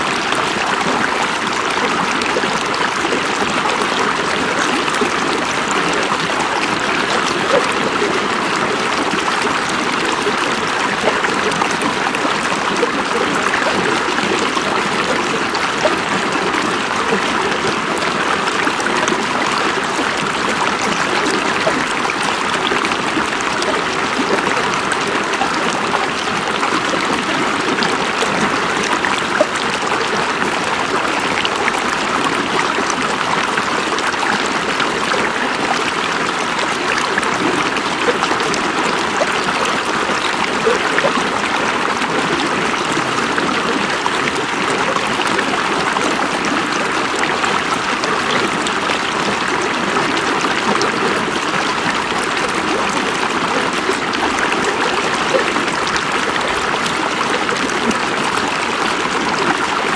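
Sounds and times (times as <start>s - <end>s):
river water over rocks: 0.0s - 59.9s.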